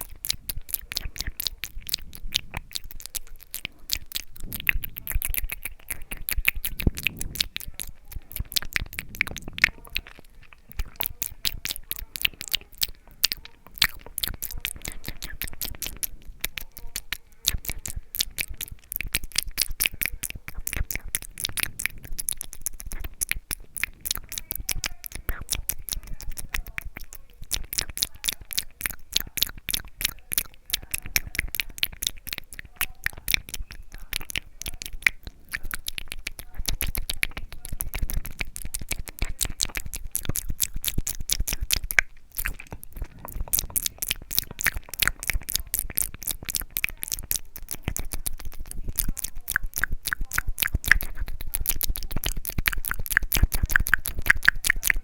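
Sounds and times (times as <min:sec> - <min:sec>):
wet mouth clicks and smacks: 0:00.0 - 0:55.0.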